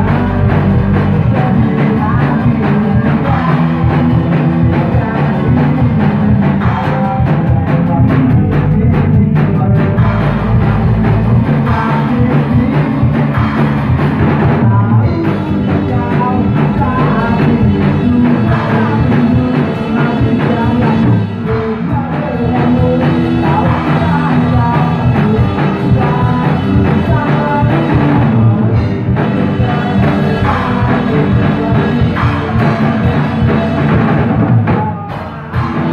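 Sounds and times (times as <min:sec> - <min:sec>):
drum kit with cymbals: 0:00.0 - 0:35.9
electric guitars: 0:00.0 - 0:35.9.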